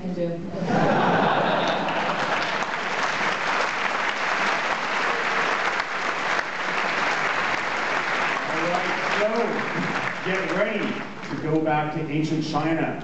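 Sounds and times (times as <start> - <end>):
large audience applauding: 0.9 - 11.7.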